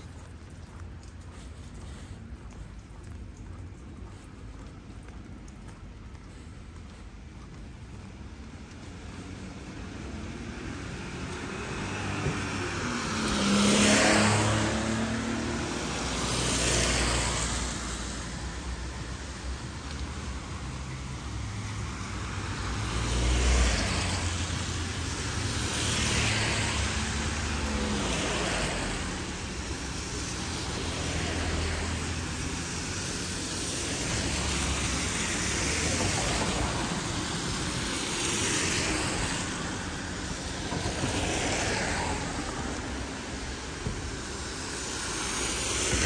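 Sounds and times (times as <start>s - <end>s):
cars passing: 0.0s - 46.0s
low traffic rumble: 0.0s - 46.0s.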